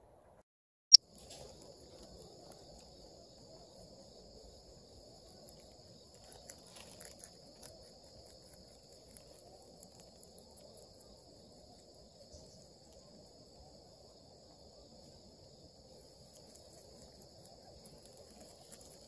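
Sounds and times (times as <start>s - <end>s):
rabbit chewing leaves: 1.0s - 19.0s
high-pitched insect chorus: 1.1s - 19.0s.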